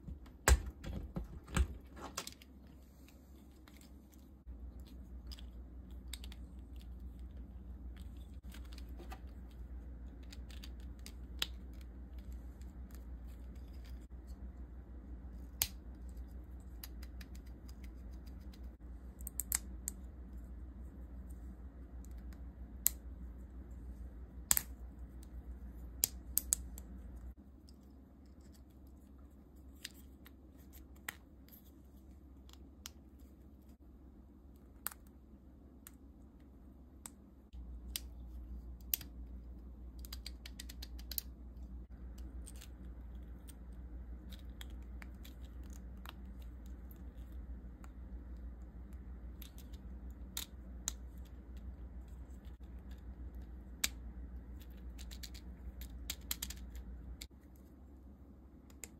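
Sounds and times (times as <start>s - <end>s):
low background hum: 0.0s - 58.9s.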